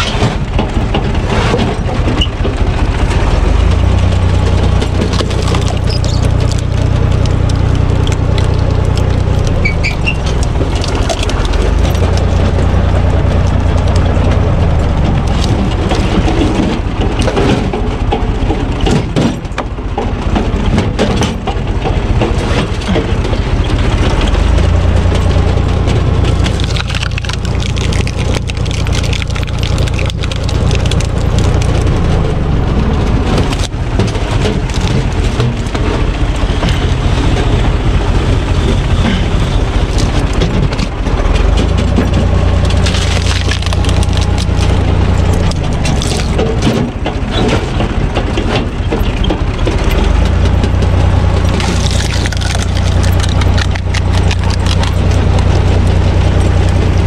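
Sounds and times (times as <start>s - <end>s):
log splitter boring into logs: 0.0s - 57.0s
tractor diesel engine running: 0.0s - 57.0s
wood cracking and splintering: 0.0s - 57.0s.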